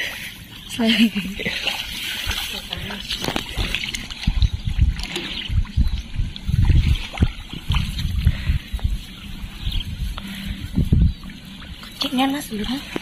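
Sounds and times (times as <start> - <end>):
wind buffeting microphone: 0.9 - 13.0.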